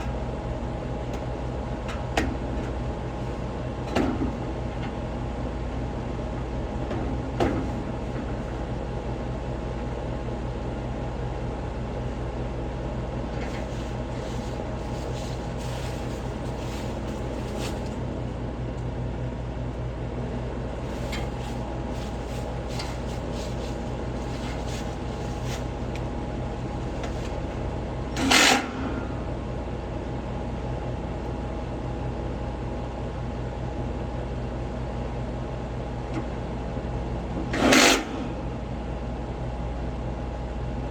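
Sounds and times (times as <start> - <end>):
mechanical hum: 0.0 - 40.9.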